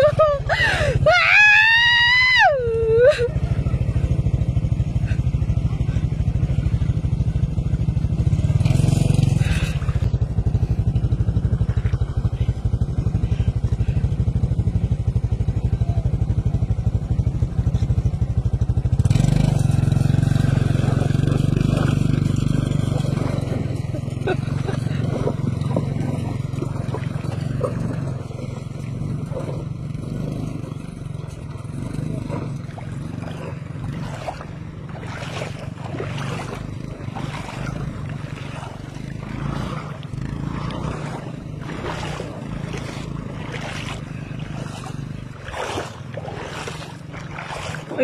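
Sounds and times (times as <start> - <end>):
water splashing: 0.0 - 15.8, 16.4 - 48.0
motorcycle engine running: 0.0 - 48.0.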